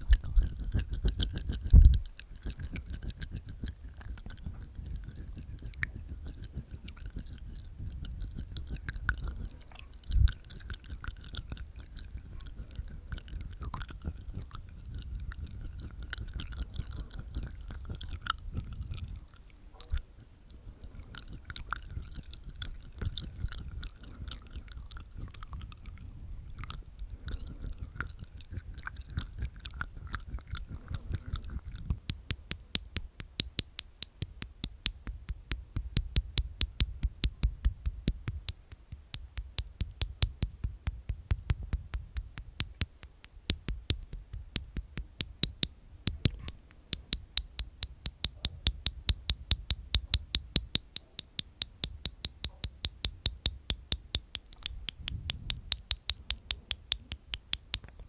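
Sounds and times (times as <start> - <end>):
tongue and teeth clicks: 0.0 - 58.0.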